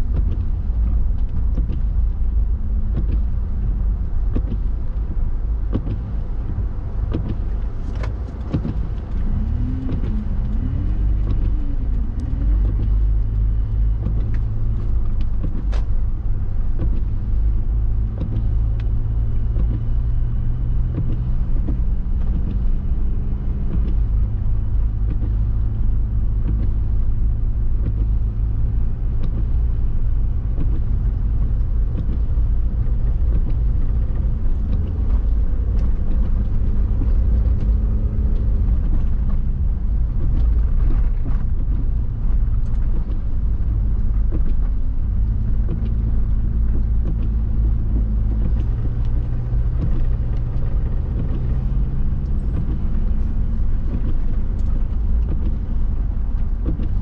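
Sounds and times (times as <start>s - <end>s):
car engine running: 0.0s - 57.0s
road and tyre rumble: 0.0s - 57.0s.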